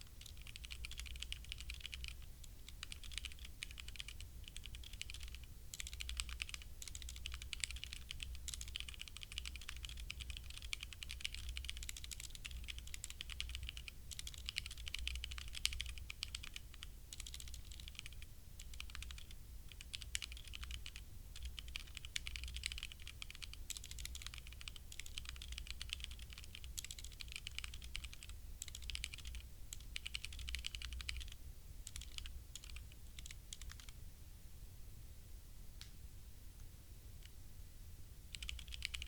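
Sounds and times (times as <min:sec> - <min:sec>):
mechanical keyboard typing: 0:00.0 - 0:34.0, 0:38.3 - 0:39.0.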